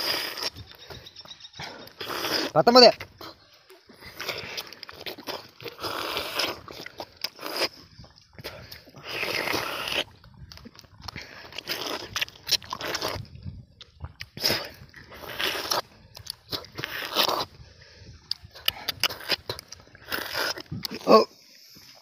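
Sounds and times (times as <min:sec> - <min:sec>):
biting and chewing soft fruit: 0:00.0 - 0:22.0.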